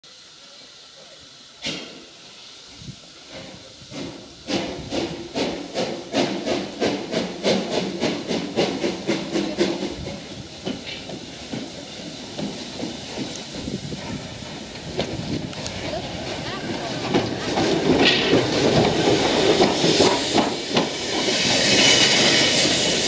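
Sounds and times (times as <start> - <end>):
steam hiss: 0.0 - 23.0
steam locomotive exhaust beats: 0.1 - 23.0.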